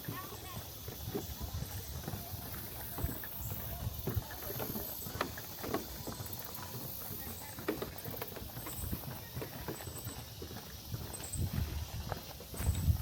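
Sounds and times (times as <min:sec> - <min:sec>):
footsteps on a trail: 0:00.0 - 0:13.0.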